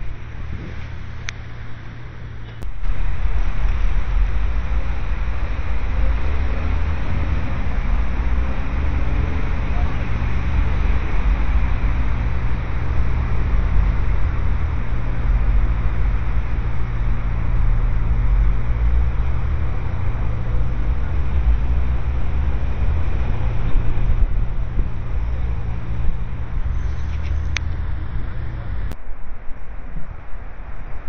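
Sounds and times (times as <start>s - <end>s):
constant low hum: 0.0s - 31.0s
road traffic rumble: 0.0s - 31.0s.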